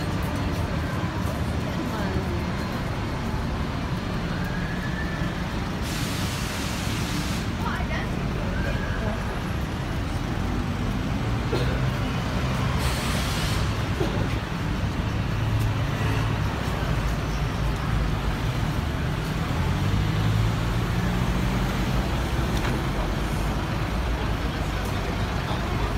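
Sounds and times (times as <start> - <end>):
road traffic engine hum: 0.0 - 25.9.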